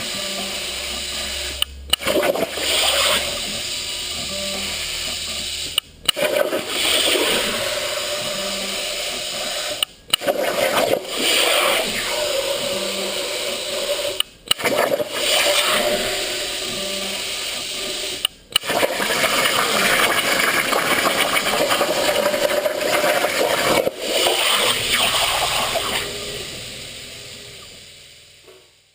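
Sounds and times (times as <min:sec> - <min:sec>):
plasma cutter hissing: 0:00.0 - 0:28.4.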